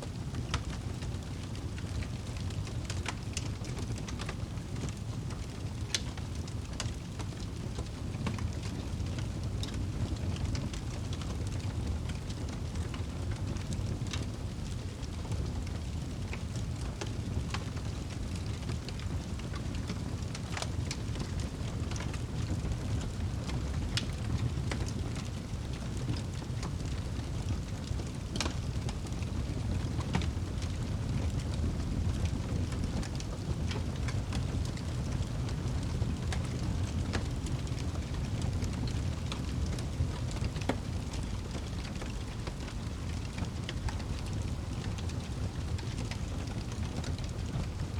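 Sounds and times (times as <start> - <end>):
fire flames rumbling: 0.0 - 47.9
logs crackling and popping: 0.1 - 47.9.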